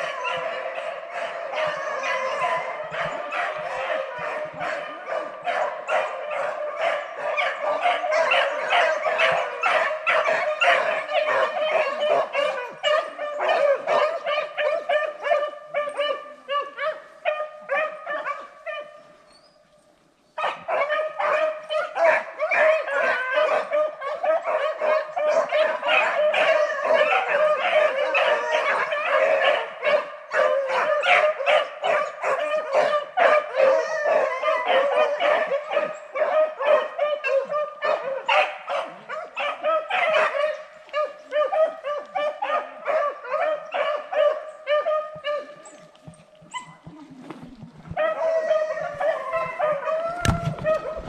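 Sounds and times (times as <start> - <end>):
pack of dogs baying: 0.0 - 19.6, 20.4 - 51.0.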